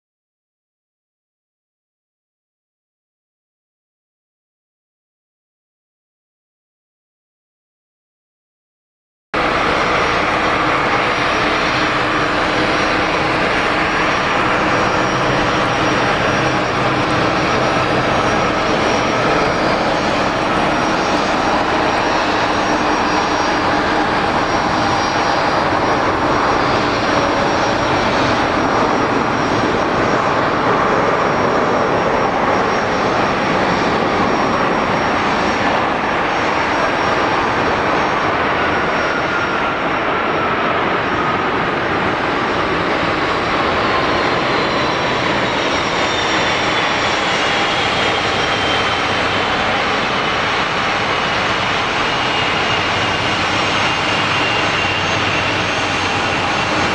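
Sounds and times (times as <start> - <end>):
jet engine whine: 9.4 - 56.9
jet engines roaring: 9.4 - 56.9.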